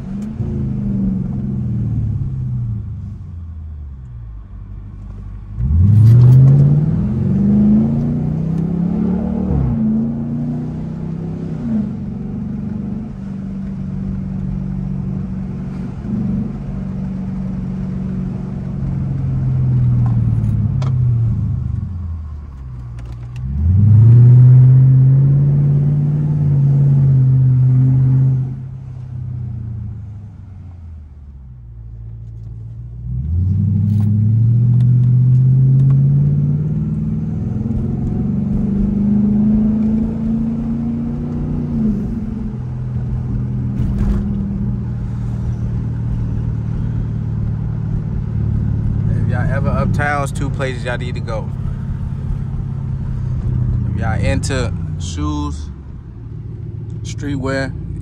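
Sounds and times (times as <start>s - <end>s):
engine exhaust accelerating: 4.7s - 58.0s.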